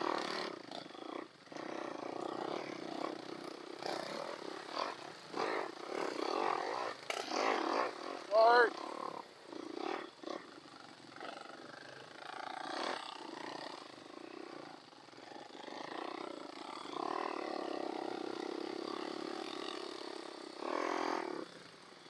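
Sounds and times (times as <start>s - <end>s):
quad engines running: 0.0s - 22.0s.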